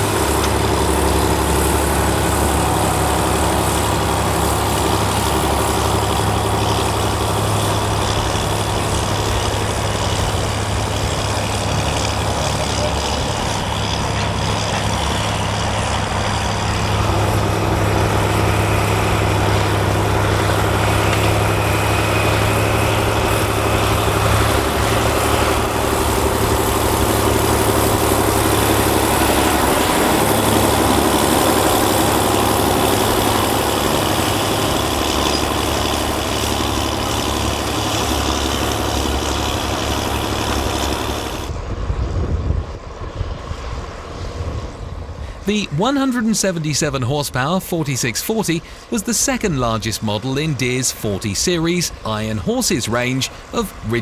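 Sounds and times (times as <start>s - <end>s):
tractor diesel engine drone: 0.0s - 41.8s, 43.9s - 54.0s.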